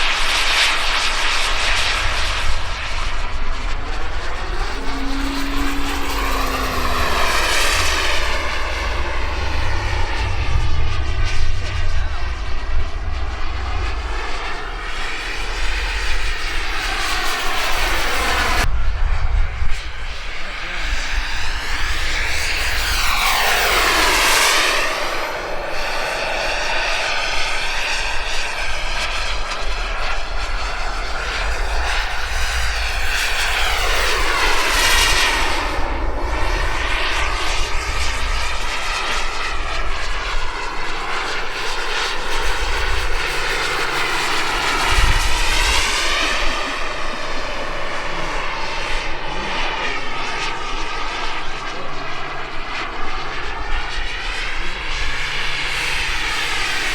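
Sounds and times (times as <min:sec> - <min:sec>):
jet turbine whining by: 0:00.0 - 0:56.9.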